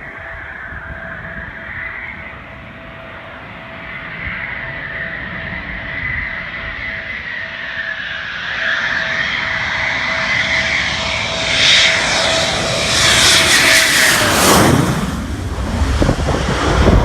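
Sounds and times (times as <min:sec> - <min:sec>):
jet aircraft passing by: 0:00.0 - 0:17.0.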